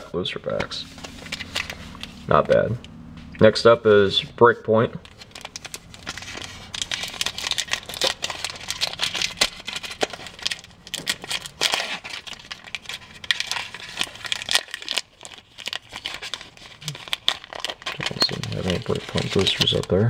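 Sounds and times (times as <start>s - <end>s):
foil wrapper crinkling: 0.9s - 2.4s, 5.0s - 20.0s.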